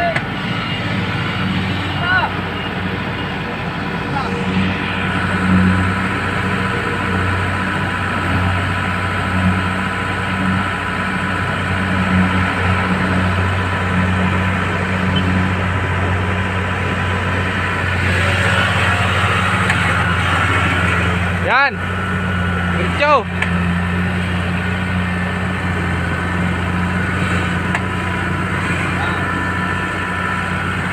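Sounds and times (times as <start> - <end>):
combine harvester diesel engine running: 0.0 - 30.9
high mechanical whine: 0.0 - 30.9.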